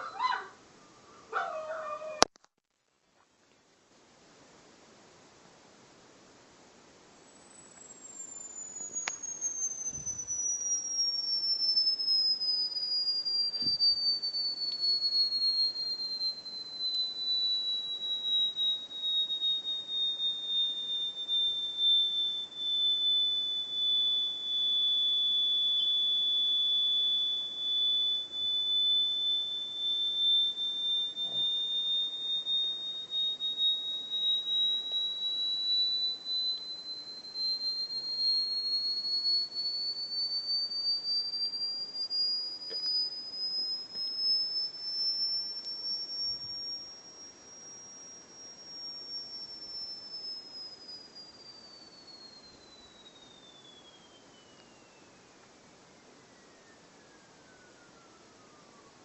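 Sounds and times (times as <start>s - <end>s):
high-pitched electronic sine tone: 0.0s - 0.4s, 7.0s - 59.0s.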